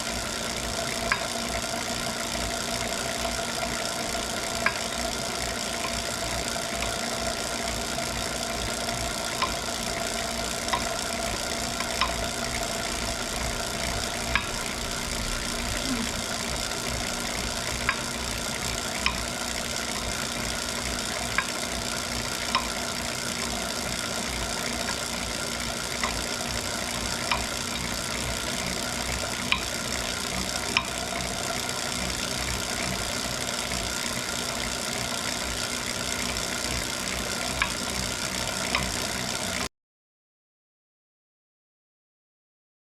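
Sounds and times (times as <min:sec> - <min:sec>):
bike trainer whirring: 0:00.0 - 0:39.7.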